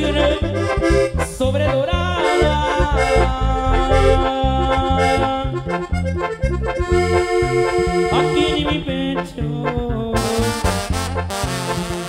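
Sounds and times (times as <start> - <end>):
band playing latin dance music: 0.0 - 12.0
pulsing bass line: 0.0 - 12.0.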